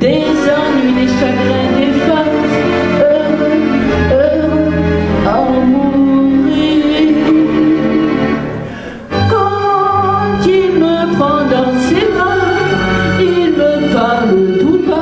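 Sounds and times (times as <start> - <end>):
woman singing into microphone: 0.0 - 8.4, 9.2 - 15.0
instrumental accompaniment: 0.0 - 15.0.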